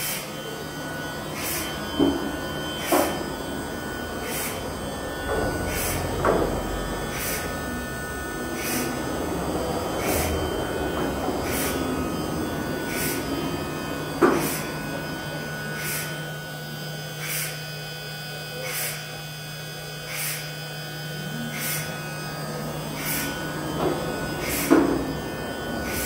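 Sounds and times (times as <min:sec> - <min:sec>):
cnc router drives humming: 0:00.0 - 0:26.0.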